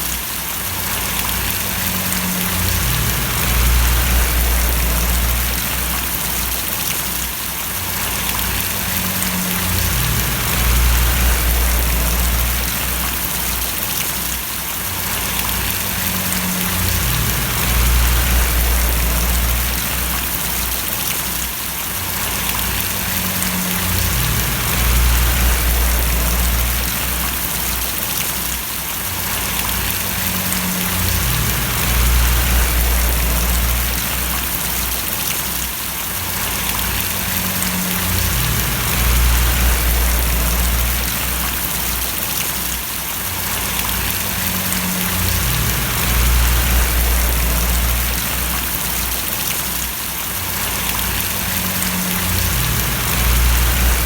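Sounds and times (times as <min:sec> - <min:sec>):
rain falling and splashing: 0:00.0 - 0:54.0
low rumble: 0:01.0 - 0:06.9, 0:08.0 - 0:13.9, 0:15.1 - 0:21.1, 0:22.2 - 0:28.0, 0:29.4 - 0:35.2, 0:36.4 - 0:42.3, 0:43.5 - 0:49.5, 0:50.6 - 0:54.0.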